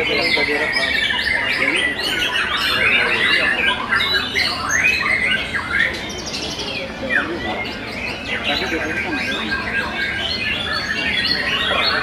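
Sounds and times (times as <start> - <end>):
birds whistling and trilling: 0.0 - 12.0.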